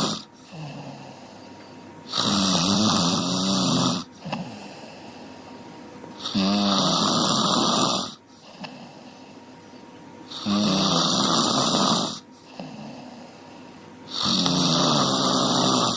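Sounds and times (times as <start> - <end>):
dog snoring: 0.0 - 5.4, 6.1 - 9.4, 10.3 - 15.9.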